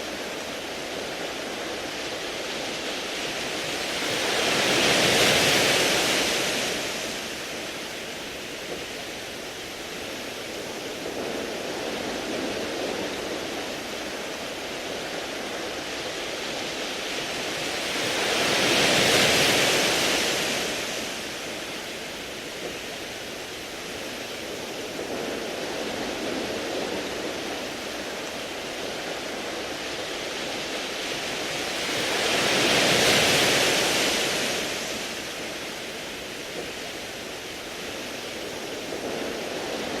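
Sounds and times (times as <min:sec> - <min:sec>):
waves washing over pebbles: 0:00.0 - 0:40.0.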